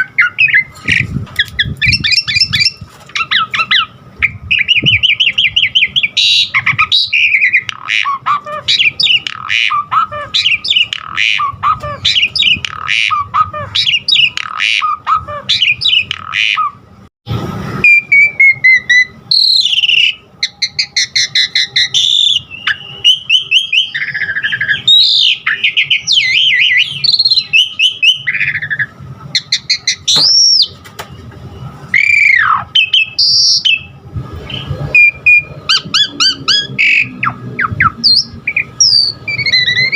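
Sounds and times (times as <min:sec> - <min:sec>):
starling singing chattering song: 0:00.0 - 0:16.9, 0:17.8 - 0:30.8, 0:31.9 - 0:39.9.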